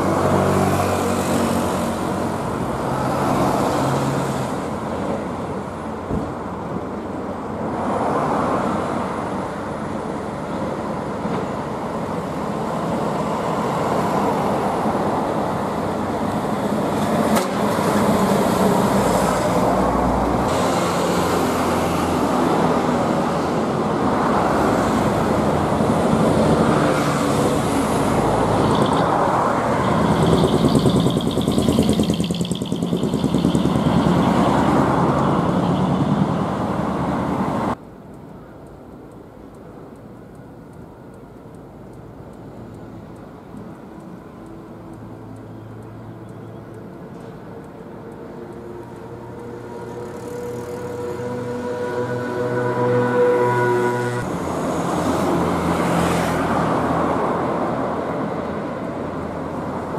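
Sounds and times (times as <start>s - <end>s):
diesel truck engines driving past: 0.0s - 37.8s, 42.7s - 59.9s
road noise: 0.0s - 59.9s.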